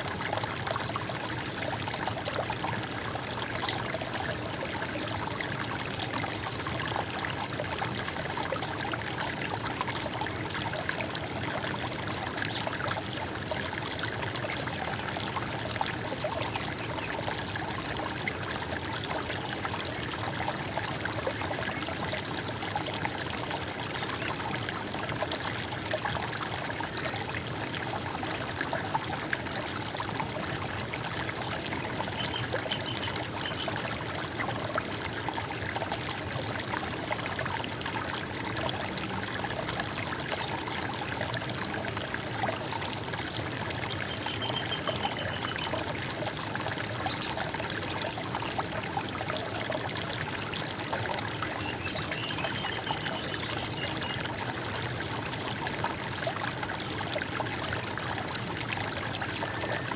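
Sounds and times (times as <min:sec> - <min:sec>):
stream water running and gurgling: 0:00.0 - 0:59.9.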